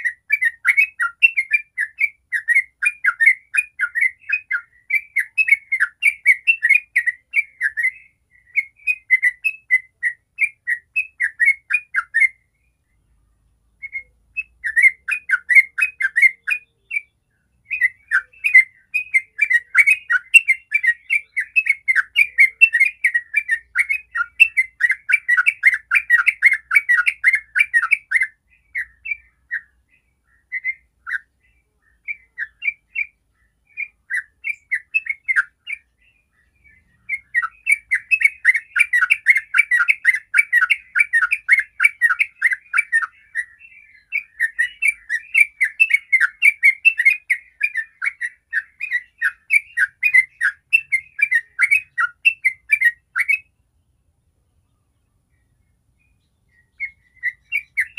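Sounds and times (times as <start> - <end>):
bird singing chattering notes: 0.0 - 13.0, 13.7 - 54.0, 54.6 - 57.9.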